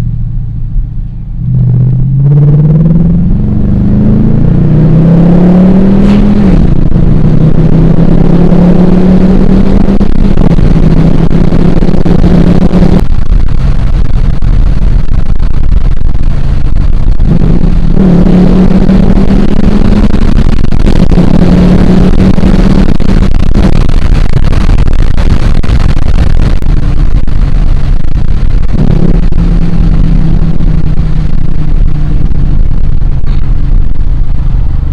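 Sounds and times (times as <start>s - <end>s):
loud car engine drone: 0.0s - 34.9s.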